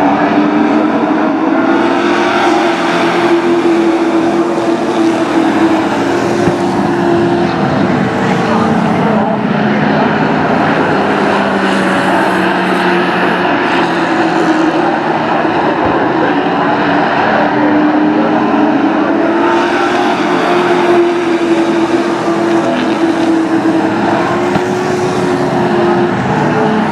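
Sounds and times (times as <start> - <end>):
racing truck engines droning: 0.0 - 26.9.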